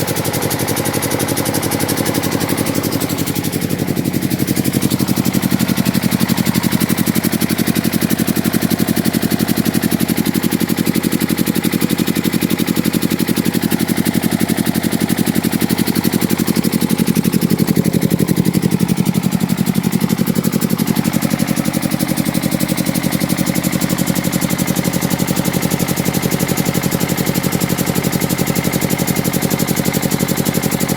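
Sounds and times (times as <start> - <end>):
diesel generator engine running: 0.0 - 30.9.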